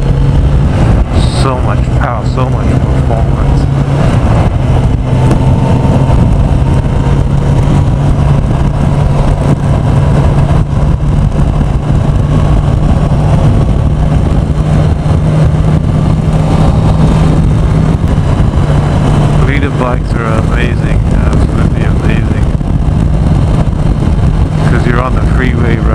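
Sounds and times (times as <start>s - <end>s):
motorcycle engine cruising: 0.0s - 25.9s
wind and road noise: 0.0s - 25.9s.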